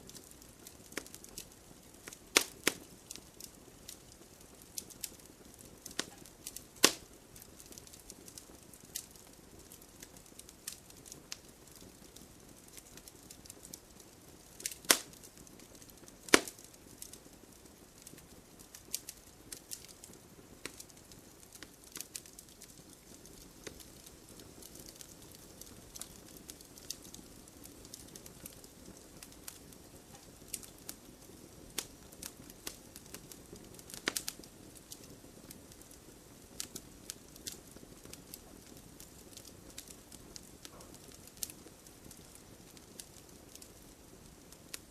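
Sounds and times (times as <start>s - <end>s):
campfire crackling and popping: 0.0s - 44.9s
loud fire snaps: 0.0s - 44.9s
low steady hiss: 0.0s - 44.9s.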